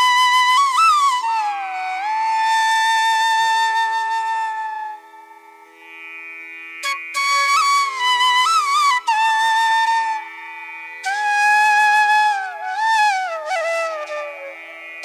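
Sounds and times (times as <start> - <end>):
flute melody: 0.0 - 5.2, 6.8 - 10.3, 11.0 - 15.0.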